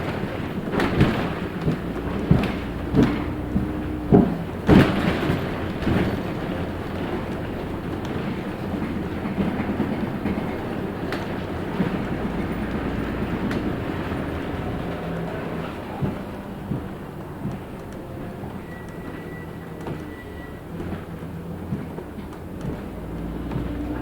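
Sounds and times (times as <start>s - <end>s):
bus engine and road rumble: 0.0s - 24.0s
sharp knocks and rattles: 0.0s - 24.0s.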